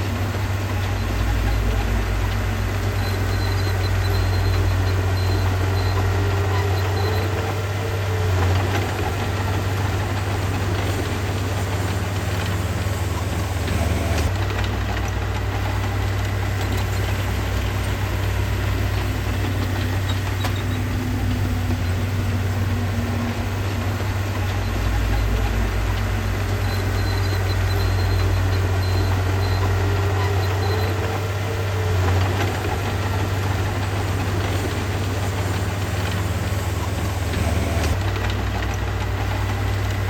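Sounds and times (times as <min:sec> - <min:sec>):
heavy diesel engine humming: 0:00.0 - 0:40.0.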